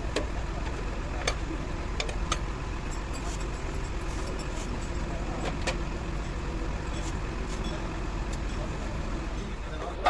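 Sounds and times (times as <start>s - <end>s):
low rumble of motor vehicle: 0.0s - 10.0s.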